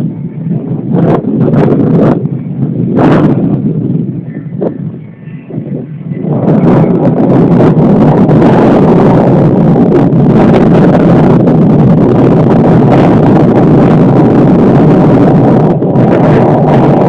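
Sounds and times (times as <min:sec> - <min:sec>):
strong wind on microphone: 0:00.0 - 0:17.0.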